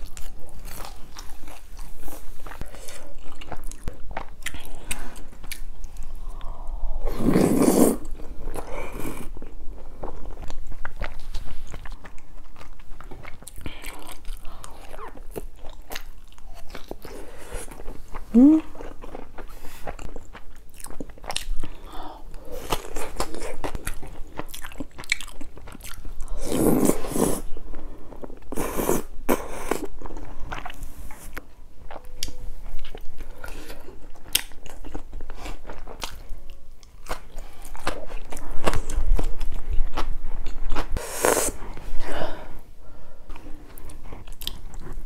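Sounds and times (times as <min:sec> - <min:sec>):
chewing and biting: 0:00.0 - 0:06.5, 0:08.0 - 0:21.9, 0:22.6 - 0:27.4, 0:28.1 - 0:41.0, 0:43.4 - 0:45.0.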